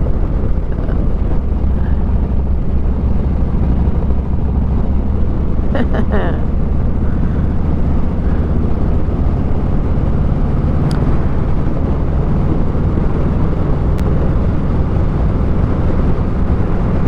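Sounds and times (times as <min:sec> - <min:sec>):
motorcycle engine cruising: 0:00.0 - 0:17.0
road and wind noise: 0:00.0 - 0:17.0.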